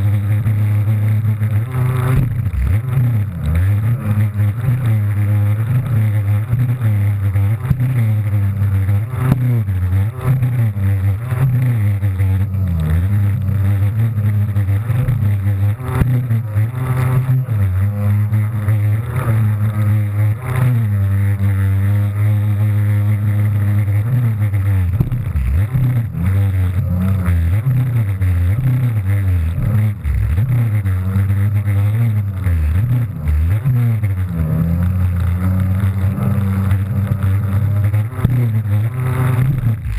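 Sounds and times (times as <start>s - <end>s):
jet ski engine running hard: 0.0s - 39.9s.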